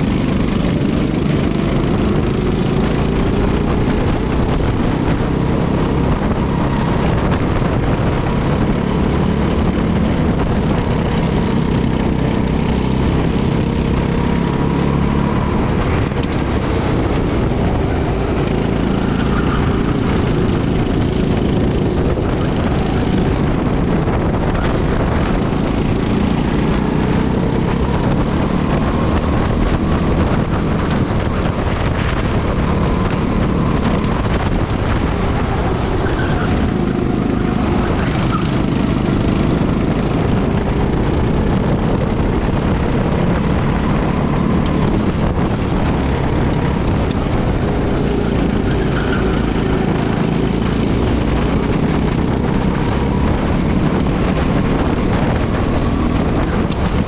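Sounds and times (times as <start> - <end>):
go-kart engine running: 0.0 - 57.0
wind buffeting microphone: 0.0 - 57.0.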